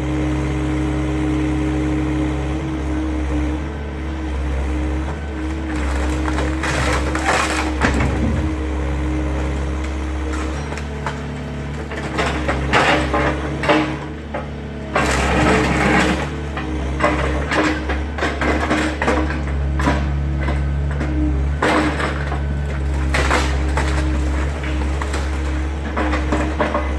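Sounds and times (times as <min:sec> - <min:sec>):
excavator engine running: 0:00.0 - 0:26.9
wood cracking and crunching: 0:05.0 - 0:26.9.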